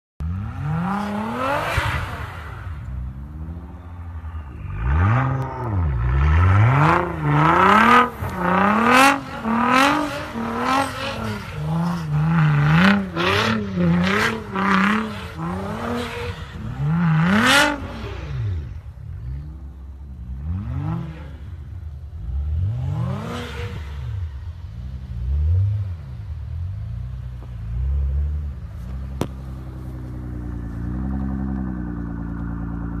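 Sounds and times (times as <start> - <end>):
car engine revving: 0.2 - 33.0.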